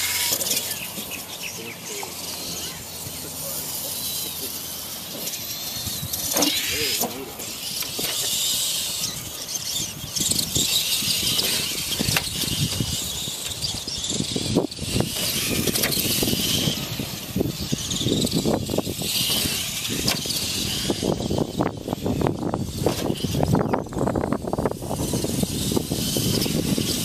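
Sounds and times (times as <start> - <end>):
toy truck motors whining: 0.0 - 27.0.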